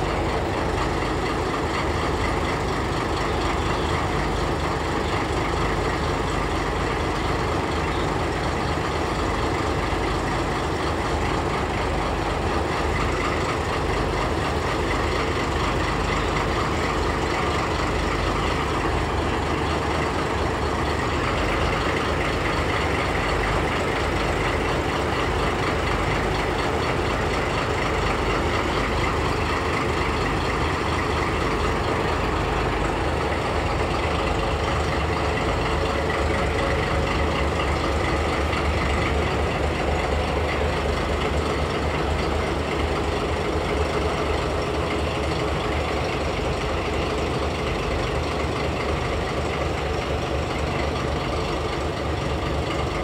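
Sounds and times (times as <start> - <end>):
diesel locomotive idling: 0.0 - 53.0.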